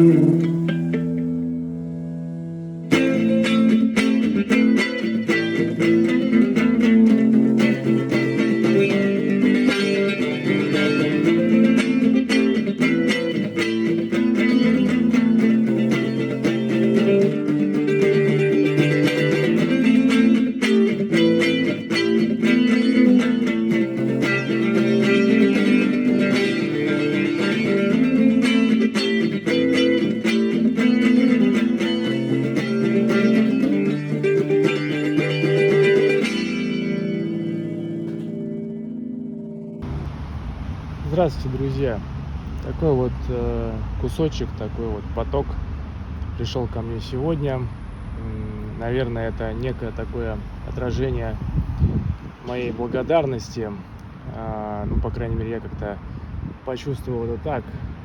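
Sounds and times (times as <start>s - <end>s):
instrumental guitar music: 0.0s - 58.0s.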